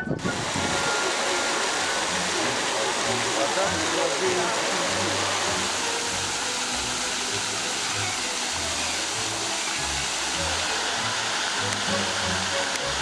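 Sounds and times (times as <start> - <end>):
fountain splashing into basin: 0.0 - 13.0.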